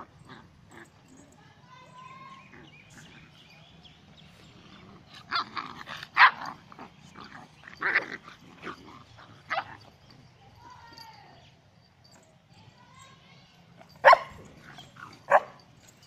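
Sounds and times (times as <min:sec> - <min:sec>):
puppies barking and yapping: 0:00.0 - 0:13.0, 0:13.6 - 0:16.0.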